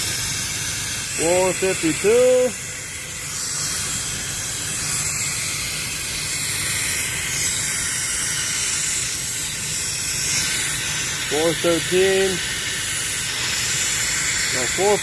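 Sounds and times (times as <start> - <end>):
compressed air hissing: 0.0 - 15.0.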